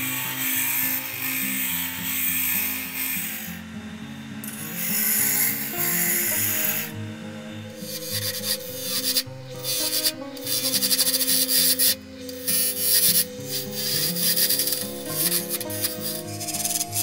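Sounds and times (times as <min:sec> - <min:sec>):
background music: 0:00.0 - 0:17.0
lathe tool scraping wood: 0:00.0 - 0:17.0.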